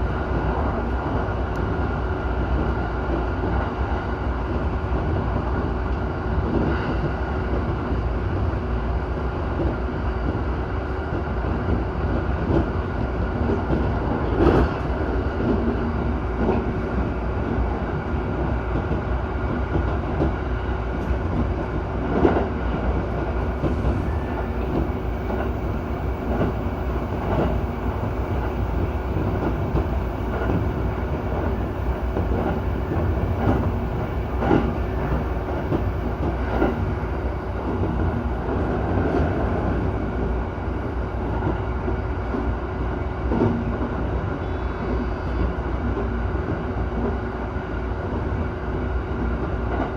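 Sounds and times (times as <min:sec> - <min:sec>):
train rumbling at speed: 0:00.0 - 0:49.9.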